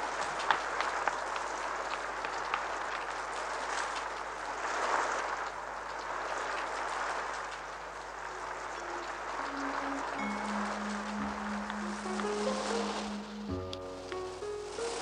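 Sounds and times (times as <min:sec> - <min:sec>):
heavy rain pouring: 0:00.0 - 0:15.0
sharp raindrop ticks: 0:00.0 - 0:15.0.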